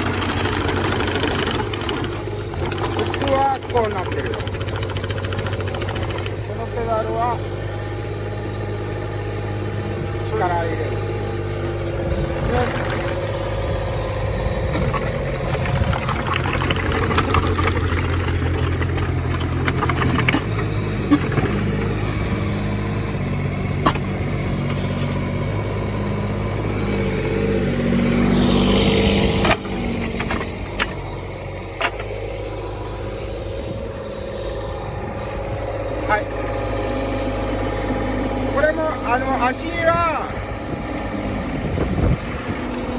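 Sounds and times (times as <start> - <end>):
diesel excavator engine running: 0.0 - 42.9.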